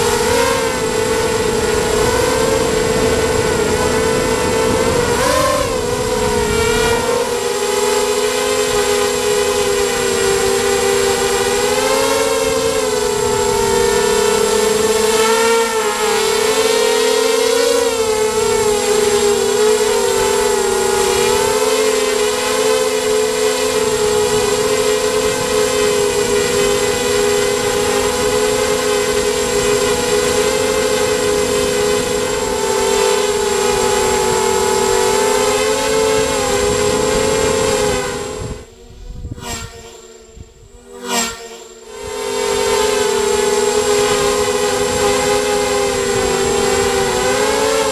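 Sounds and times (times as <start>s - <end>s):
drone motors whining: 0.0s - 47.9s.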